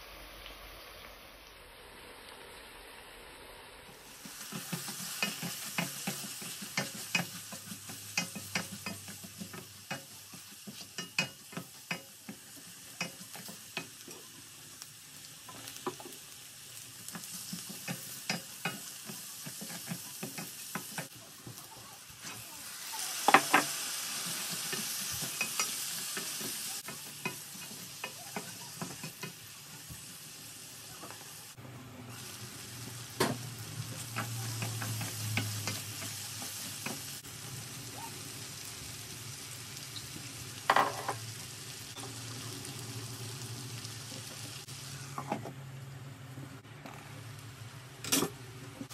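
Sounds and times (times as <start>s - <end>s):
onions sizzling: 0.0s - 48.9s.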